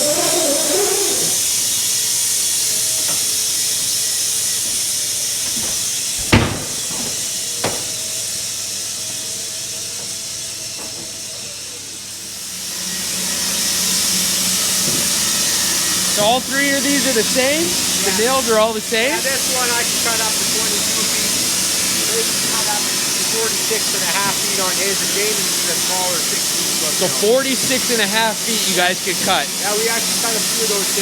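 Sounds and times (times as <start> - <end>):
band sawmill hissing: 0.0 - 31.0.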